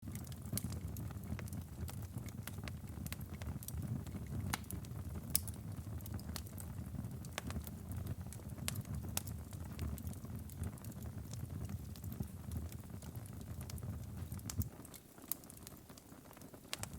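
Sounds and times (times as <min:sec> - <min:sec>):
firewood crackling and popping: 0:00.0 - 0:16.9
low rumble of flames: 0:00.0 - 0:16.9.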